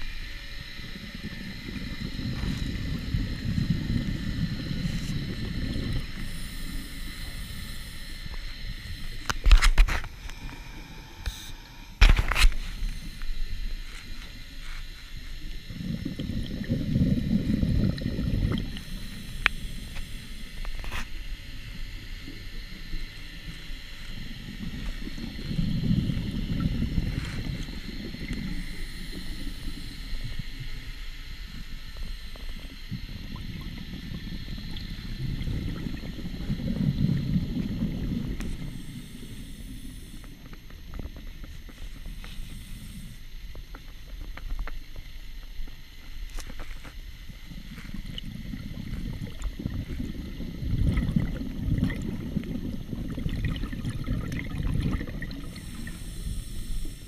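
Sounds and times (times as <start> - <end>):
diver exhaling bubbles underwater: 0.0 - 13.6, 15.4 - 23.0, 23.8 - 30.8, 31.5 - 43.2, 47.4 - 57.0.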